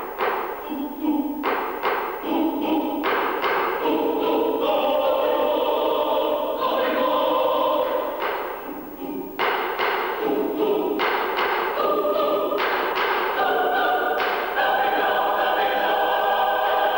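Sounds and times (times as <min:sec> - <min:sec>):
mixed choir singing: 0:00.0 - 0:16.9.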